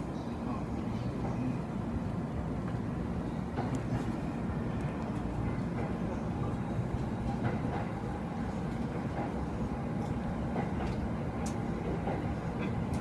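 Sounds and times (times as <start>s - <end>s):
train rumbling inside car: 0.0s - 13.0s.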